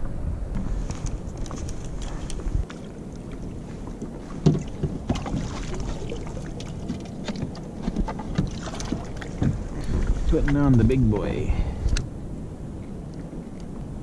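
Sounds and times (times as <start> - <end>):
light wind: 0.0 - 14.0
water noise: 0.0 - 14.0.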